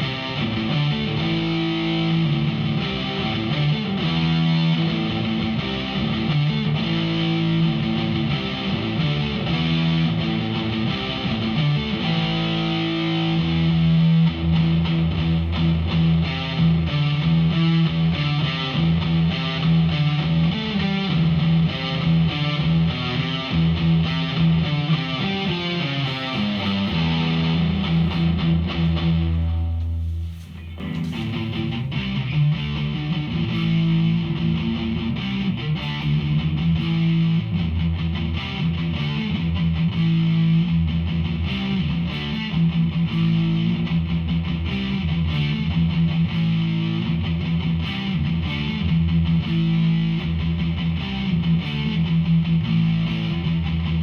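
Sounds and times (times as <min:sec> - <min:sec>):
distorted electric guitar riffing: 0:00.0 - 0:54.0.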